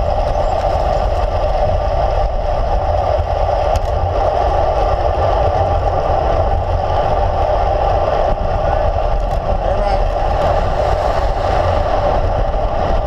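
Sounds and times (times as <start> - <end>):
road and tyre rumble: 0.0 - 13.0
wind rushing over microphone: 0.0 - 13.0.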